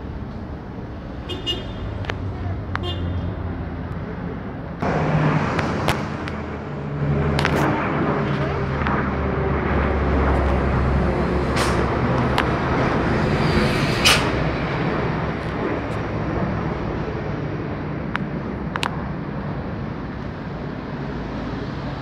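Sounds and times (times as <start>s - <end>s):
aircraft engine drone: 0.0s - 22.0s.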